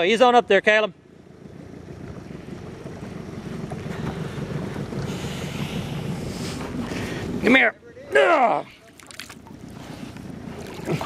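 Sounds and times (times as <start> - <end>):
boat motor running: 1.0 - 11.0.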